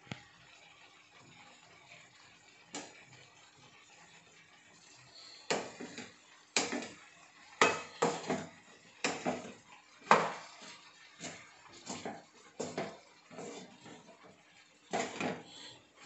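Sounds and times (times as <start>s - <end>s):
spatula scraping frying pan: 1.8s - 16.0s.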